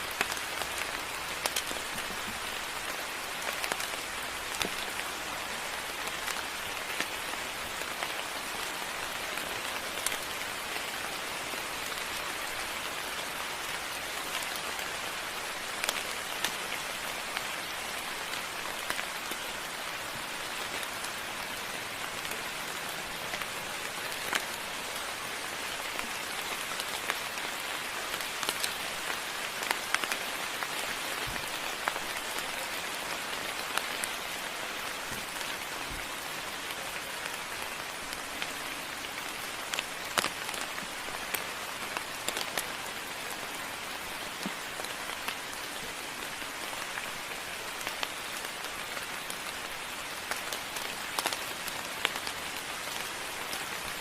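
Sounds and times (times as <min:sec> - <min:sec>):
rain falling: 0:00.0 - 0:54.0
raindrops ticking: 0:00.0 - 0:54.0.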